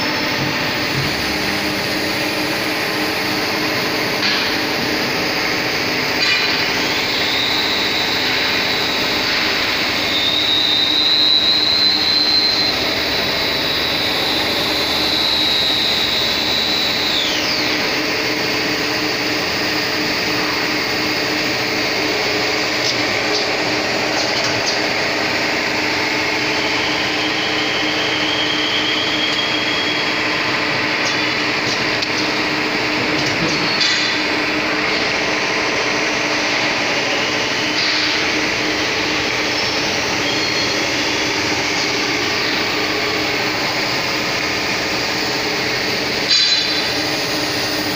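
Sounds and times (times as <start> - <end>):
high machine whine: 0.0 - 47.9
lathe machine hum: 0.0 - 47.9.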